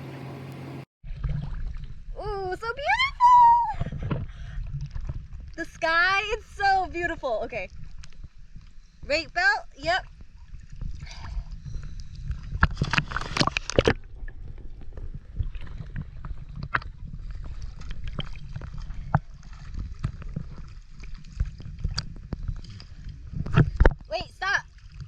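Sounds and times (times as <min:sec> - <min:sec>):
sea water sloshing and splashing: 0:01.0 - 0:25.0.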